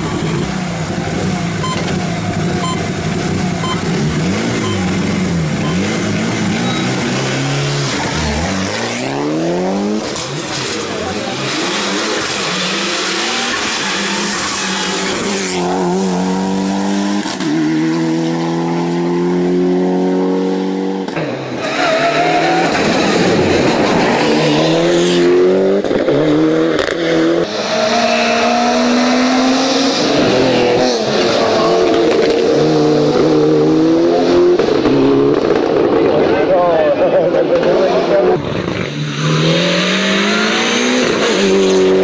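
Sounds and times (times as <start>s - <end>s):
rally car engines revving: 0.0s - 42.0s.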